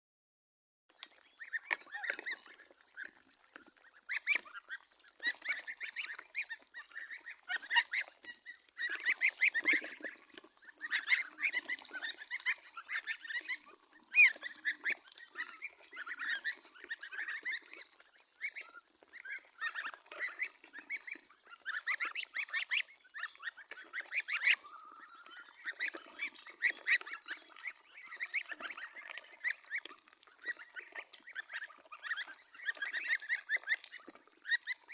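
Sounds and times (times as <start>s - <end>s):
geese and ducks honking: 1.2s - 34.9s.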